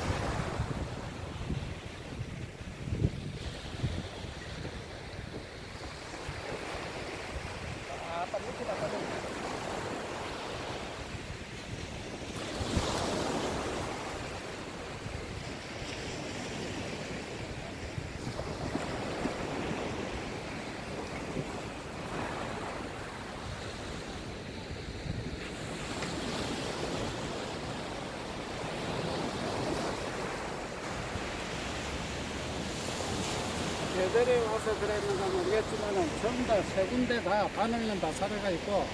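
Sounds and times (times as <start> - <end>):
wind buffeting microphone: 0.0 - 37.7
small surf breaking on beach: 0.0 - 38.9.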